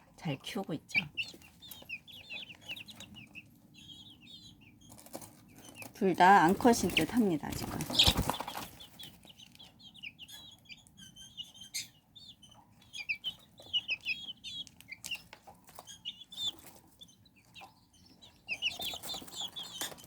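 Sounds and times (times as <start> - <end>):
chicks peeping: 0.1 - 20.0.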